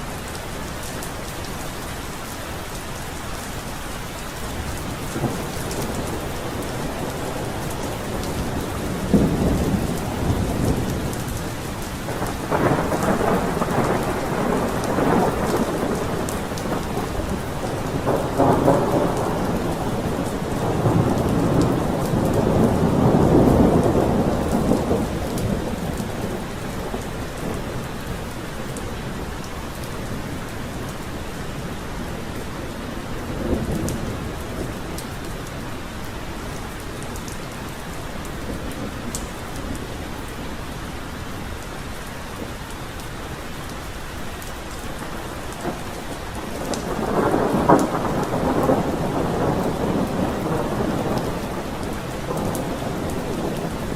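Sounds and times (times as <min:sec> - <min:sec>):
heavy rain: 0:00.0 - 0:53.9
thunder rumbling: 0:04.7 - 0:43.0, 0:44.5 - 0:53.9.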